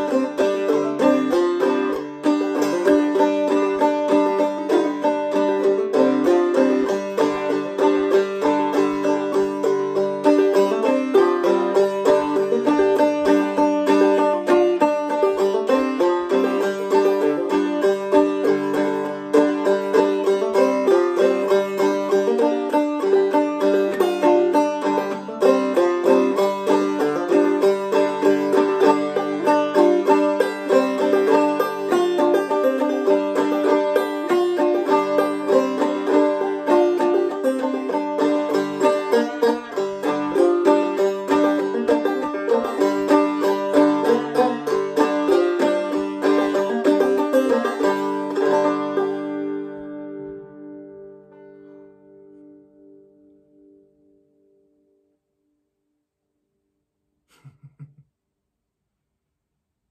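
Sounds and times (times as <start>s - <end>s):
banjo playing old-time tune: 0.0s - 52.8s.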